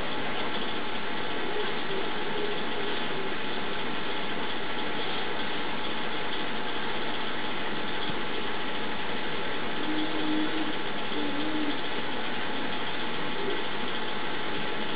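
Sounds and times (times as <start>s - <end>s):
faint whining tones: 0.0s - 14.9s
mechanical hum: 0.0s - 14.9s.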